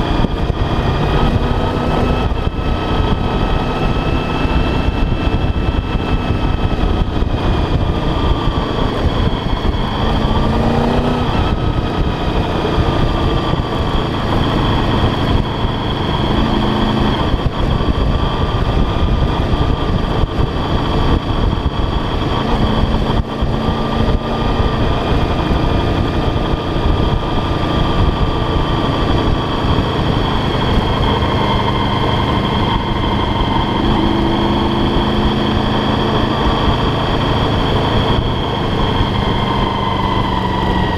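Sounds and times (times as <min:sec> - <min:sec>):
motorcycle engine running: 0:00.0 - 0:40.9
wind rush on microphone: 0:00.0 - 0:40.9.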